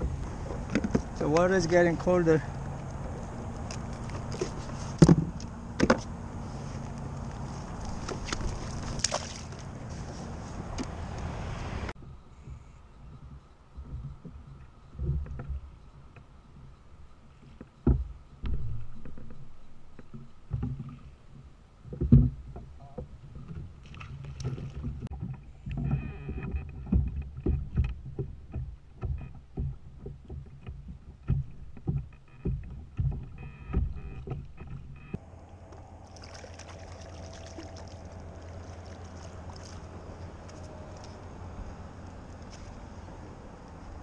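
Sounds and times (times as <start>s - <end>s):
water slapping kayak hull: 0.0s - 11.8s, 17.8s - 44.0s.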